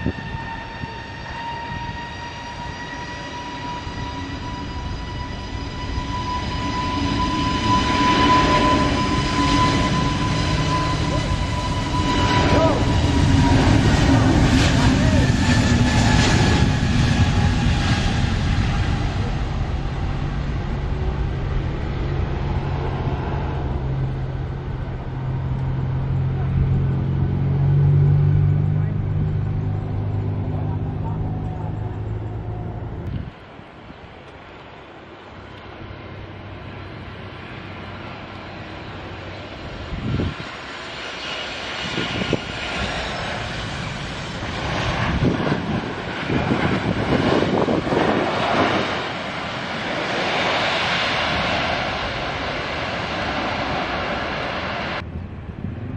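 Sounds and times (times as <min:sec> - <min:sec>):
jet engines rumbling: 0:00.0 - 0:55.9
low buffeting gusts: 0:00.0 - 0:55.9.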